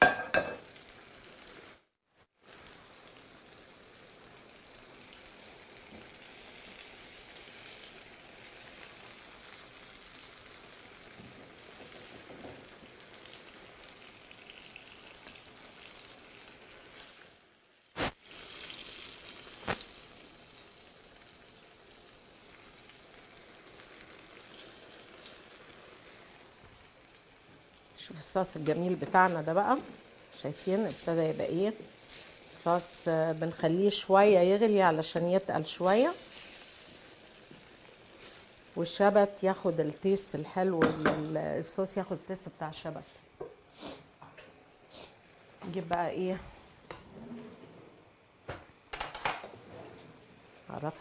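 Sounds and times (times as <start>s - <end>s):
food sizzling in pans: 0.0s - 46.4s.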